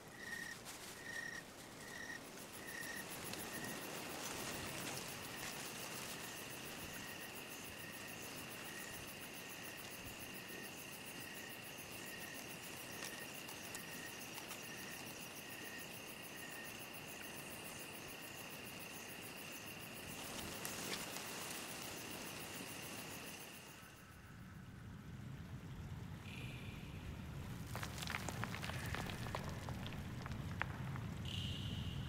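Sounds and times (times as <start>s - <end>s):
crickets trilling: 0.0s - 32.0s
slower cricket chirp: 0.0s - 32.0s.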